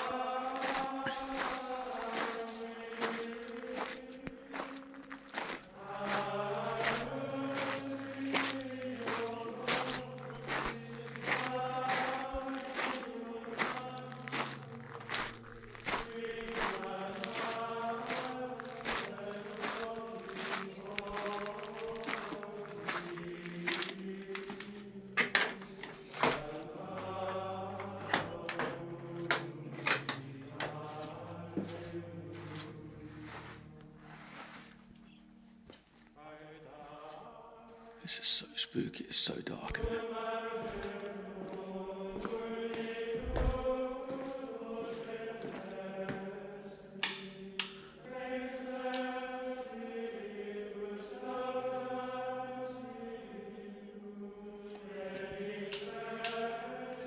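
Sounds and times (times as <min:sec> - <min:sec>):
slow music with held chords: 0:00.0 - 0:57.0.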